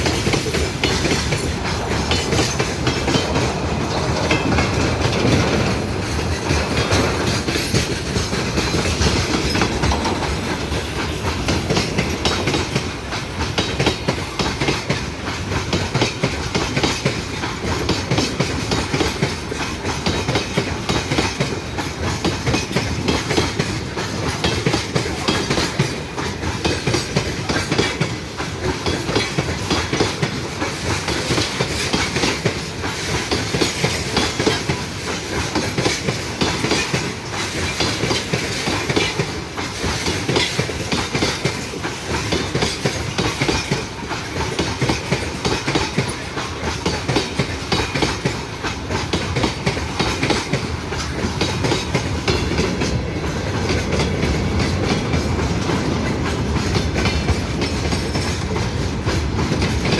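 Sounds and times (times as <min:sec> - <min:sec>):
train wheels clattering over rail joints: 0:00.0 - 0:59.9.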